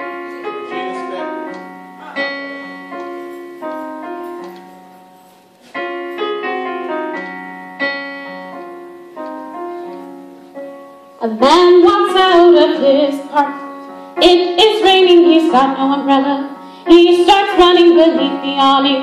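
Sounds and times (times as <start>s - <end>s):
solo piano chords: 0.0s - 19.0s.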